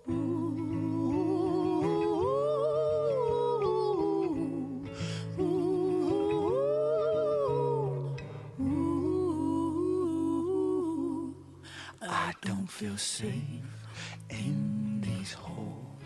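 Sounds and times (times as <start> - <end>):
wordless singing: 0.0 - 16.0.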